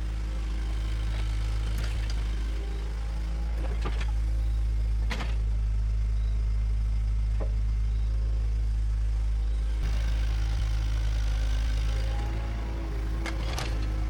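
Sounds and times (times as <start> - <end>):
bulldozer diesel engine droning: 0.0 - 14.0.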